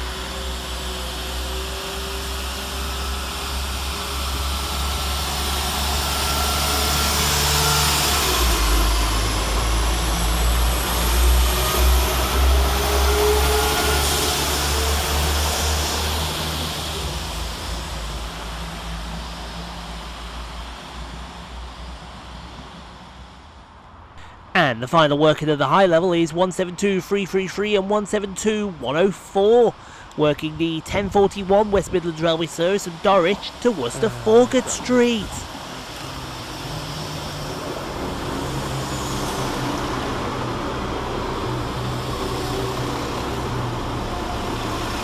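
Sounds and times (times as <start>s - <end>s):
diesel train passing: 0.0s - 45.0s.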